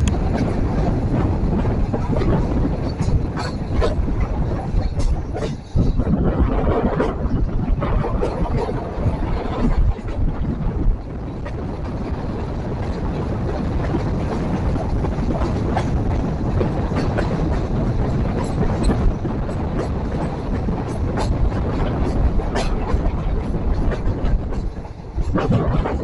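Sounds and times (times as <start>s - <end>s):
train coach rumbling: 0.0s - 26.0s.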